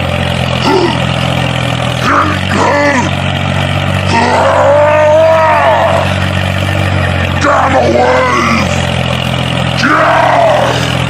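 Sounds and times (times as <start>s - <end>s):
toy tractor motor droning: 0.0s - 11.0s.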